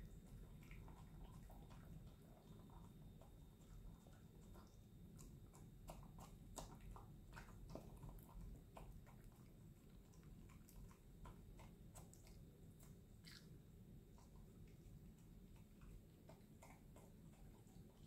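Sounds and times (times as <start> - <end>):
dog chewing: 0.0 - 18.0
dog eating from metal bowl: 0.0 - 18.0.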